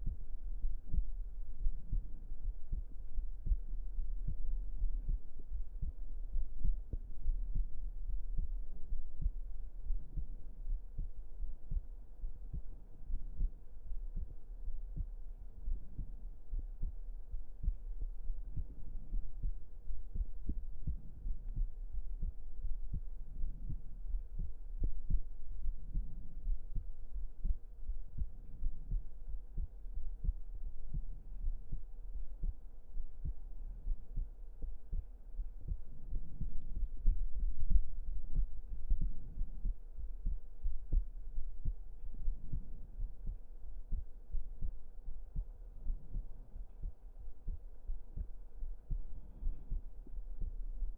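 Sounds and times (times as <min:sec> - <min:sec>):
human heartbeat thudding: 0:00.0 - 0:50.9.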